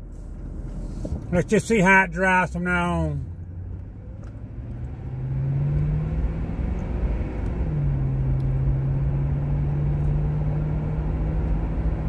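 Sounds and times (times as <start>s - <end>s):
car engine hum: 0.0s - 12.0s
road rumble and tyre noise: 0.0s - 12.0s.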